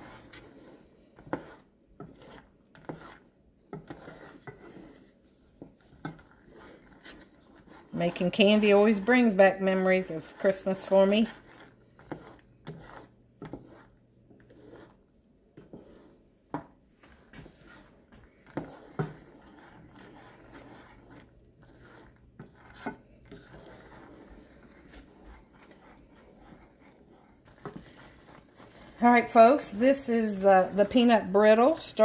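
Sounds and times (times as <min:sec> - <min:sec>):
spatula scraping saucepan: 0:00.0 - 0:32.0.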